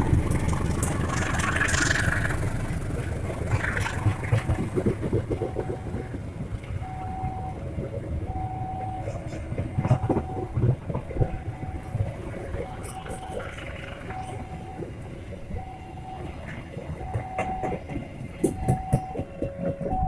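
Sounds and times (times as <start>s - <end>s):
train coaches rumbling: 0.0s - 20.0s
wheels clacking over rail joints: 0.0s - 20.0s.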